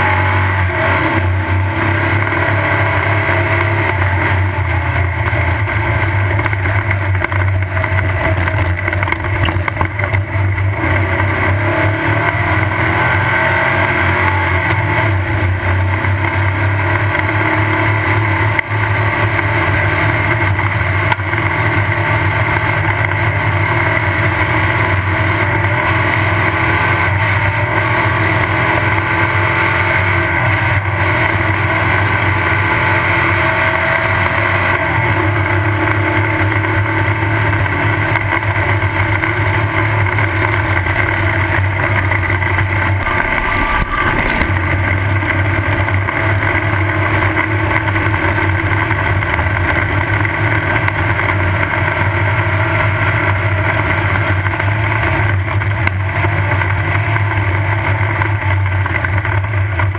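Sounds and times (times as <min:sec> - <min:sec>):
race car engine droning: 0:00.0 - 0:59.9.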